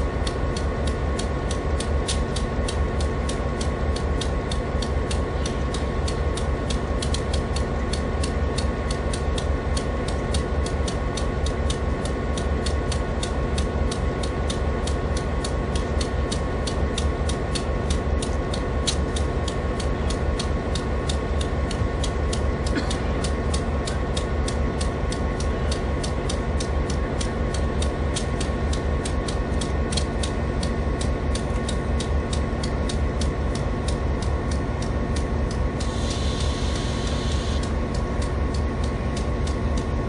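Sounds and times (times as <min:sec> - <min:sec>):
steam locomotive mechanical hum: 0:00.0 - 0:40.0.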